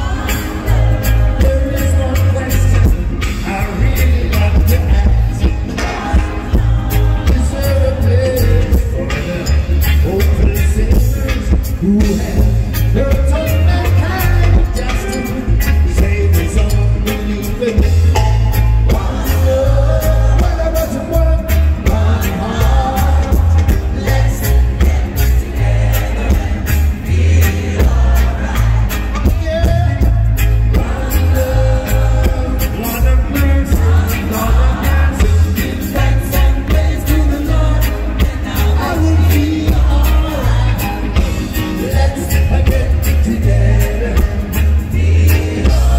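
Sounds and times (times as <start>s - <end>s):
drums steady beat: 0.0s - 45.9s
heavy bass: 0.0s - 45.9s
man singing: 0.0s - 45.9s
reggae band playing: 0.0s - 45.9s.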